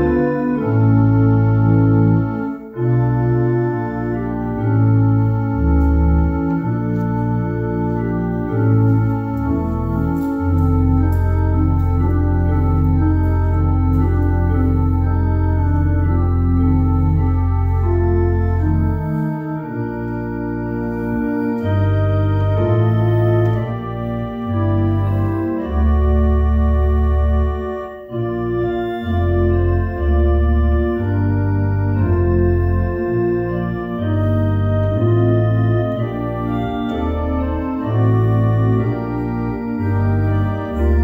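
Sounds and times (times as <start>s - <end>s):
low organ pedal notes: 0.0s - 41.0s
organ playing chords: 0.0s - 41.0s.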